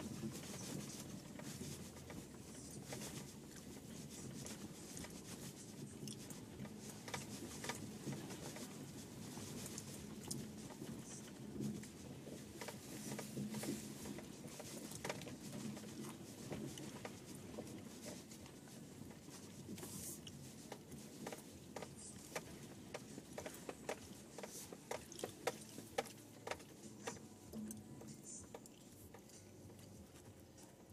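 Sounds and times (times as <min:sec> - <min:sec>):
car cabin low rumble: 0:00.0 - 0:30.9.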